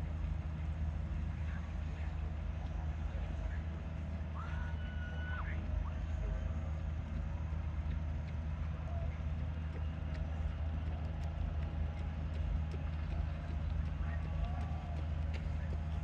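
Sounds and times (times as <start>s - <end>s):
distant rumble of ride machinery: 0.0s - 16.0s.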